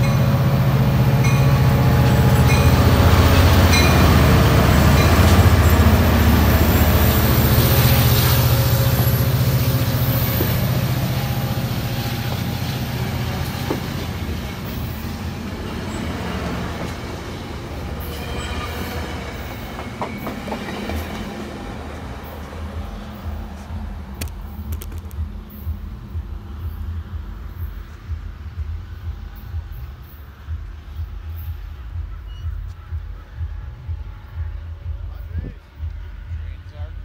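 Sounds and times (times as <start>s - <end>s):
train wheels clicking over rail joints: 0.0s - 34.2s
diesel locomotive engine rumbling: 0.0s - 37.0s.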